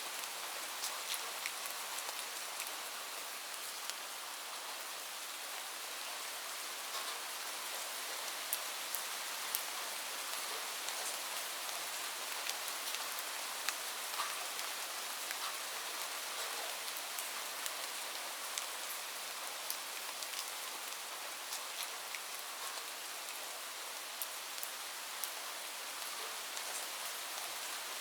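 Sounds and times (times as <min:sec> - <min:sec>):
light rain hiss: 0:00.0 - 0:28.0.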